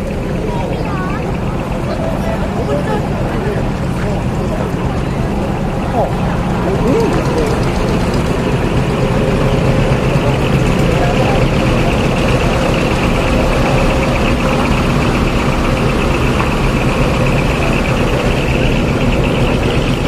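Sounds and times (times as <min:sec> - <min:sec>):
background voices: 0:00.0 - 0:20.0
diesel truck engine idling: 0:00.0 - 0:20.0.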